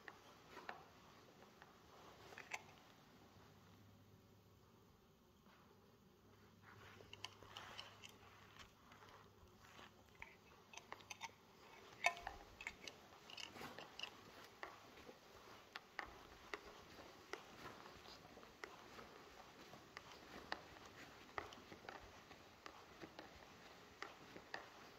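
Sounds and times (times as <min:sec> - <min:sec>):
faint clicks and taps: 0:00.0 - 0:03.0, 0:05.4 - 0:24.9.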